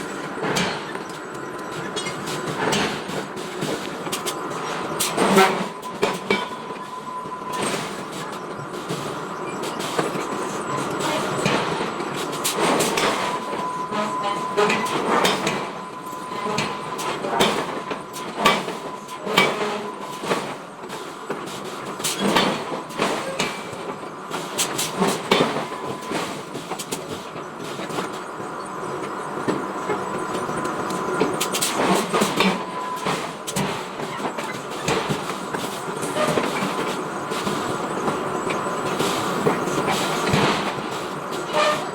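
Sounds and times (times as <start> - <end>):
machinery din with faint whine: 0.0 - 41.9.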